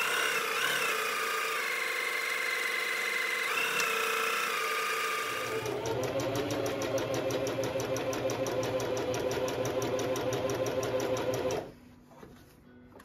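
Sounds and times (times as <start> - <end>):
sewing machine stitching: 0.0 - 11.7.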